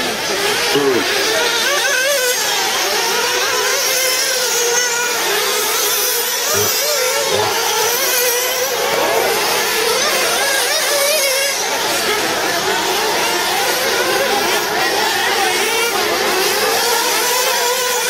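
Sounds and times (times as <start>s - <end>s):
rc car engines buzzing: 0.0s - 18.0s.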